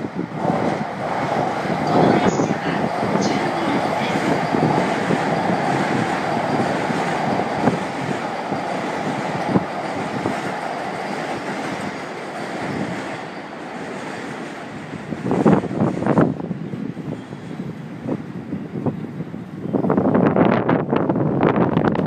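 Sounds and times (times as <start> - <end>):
electric train rumbling past: 0.0 - 22.0.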